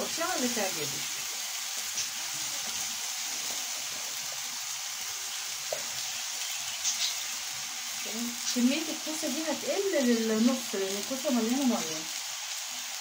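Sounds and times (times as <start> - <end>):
food frying sizzle: 0.0 - 13.0.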